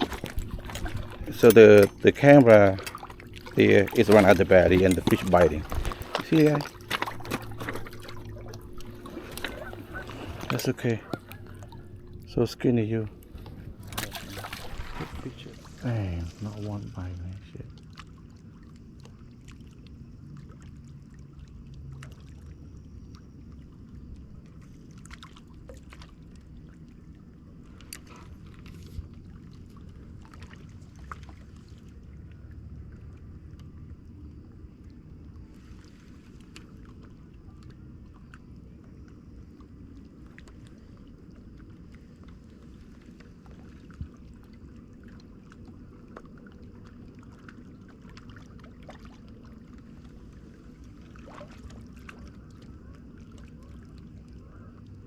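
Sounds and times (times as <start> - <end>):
low outdoor rumble: 0.0 - 55.0
water lapping: 0.0 - 55.0.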